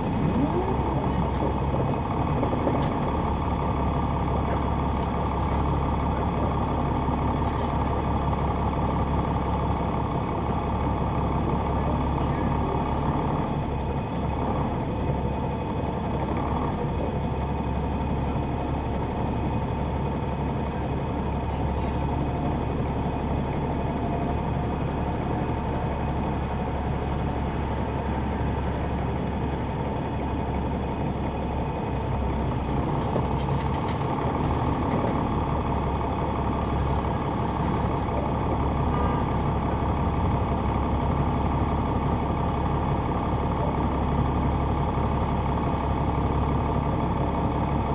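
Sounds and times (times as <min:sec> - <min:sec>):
bus diesel engine droning: 0:00.0 - 0:47.9.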